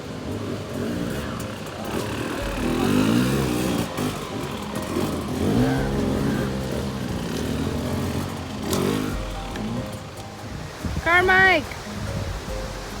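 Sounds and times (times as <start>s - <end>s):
vehicle engine revving: 0.0s - 10.8s.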